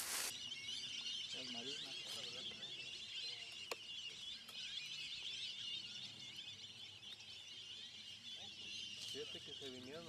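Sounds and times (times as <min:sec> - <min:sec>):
flock of birds calling: 0:00.0 - 0:10.0.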